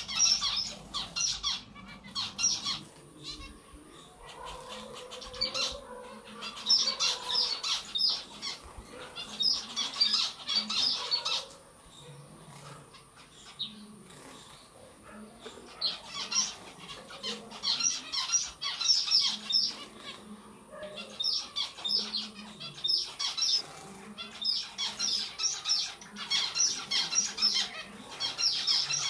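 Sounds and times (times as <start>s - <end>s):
finches chirping: 0.0s - 29.0s.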